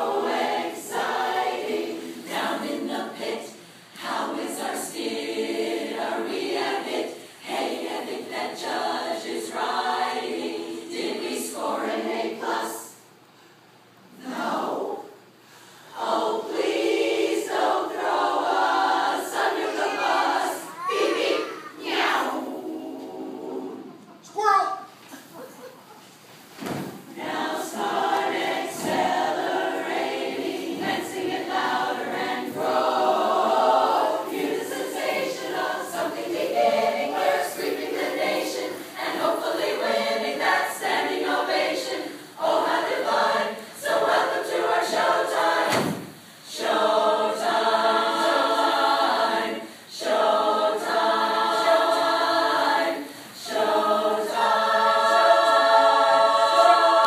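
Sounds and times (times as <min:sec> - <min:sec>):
women's chorus singing: 0:00.0 - 0:13.2, 0:14.1 - 0:24.2, 0:26.6 - 0:57.0.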